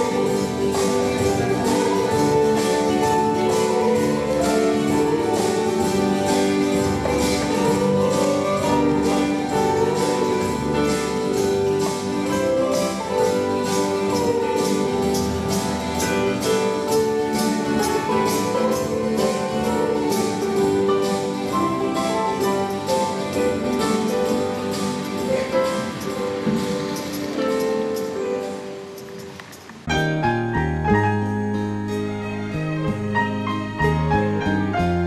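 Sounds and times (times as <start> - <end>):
hand drum beat: 0.0 - 28.2.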